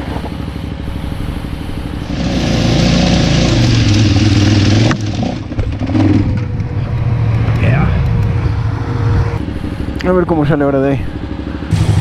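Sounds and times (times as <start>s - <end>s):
motorcycle engine low revs: 0.0s - 12.0s
track noise: 0.0s - 12.0s.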